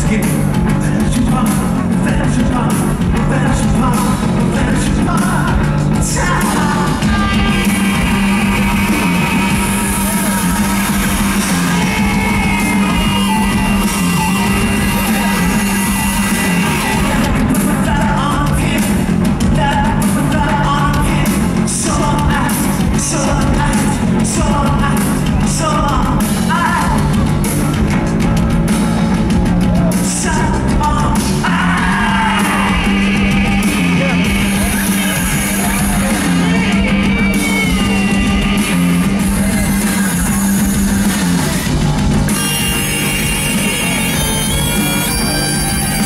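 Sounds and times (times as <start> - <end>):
man singing: 0.0 - 27.8, 29.8 - 46.0
bass line: 0.0 - 46.0
rock band playing: 0.0 - 46.0.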